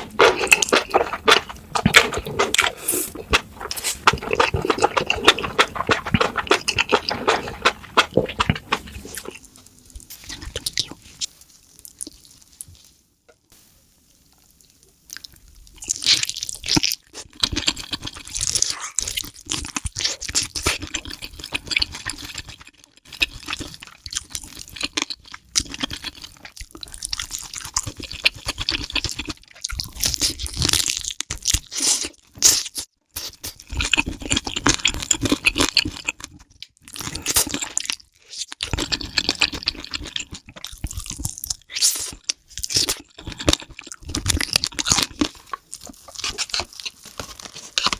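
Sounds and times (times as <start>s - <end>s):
crunchy chewing and biting: 0.0s - 9.5s, 15.8s - 47.9s.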